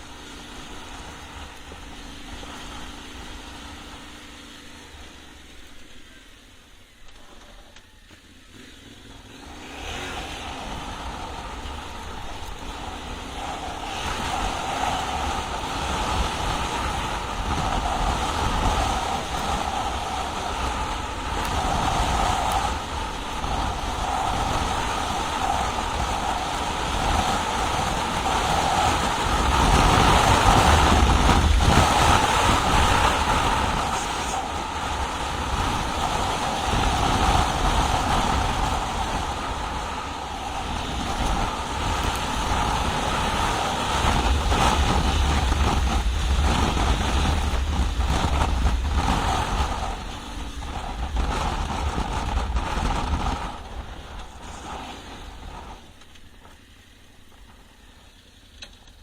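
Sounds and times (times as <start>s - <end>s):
wind rushing over microphone: 0.0s - 6.2s, 8.6s - 57.8s.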